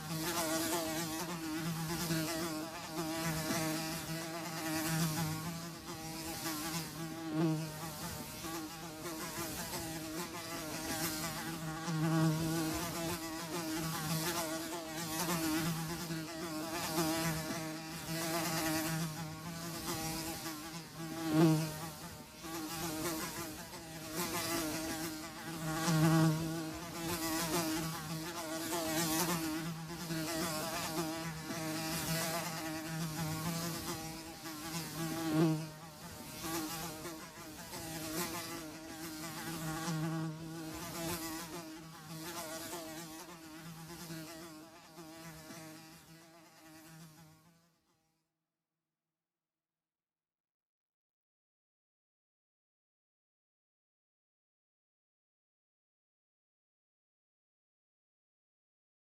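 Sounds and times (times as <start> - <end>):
flies buzzing: 0.0 - 47.6.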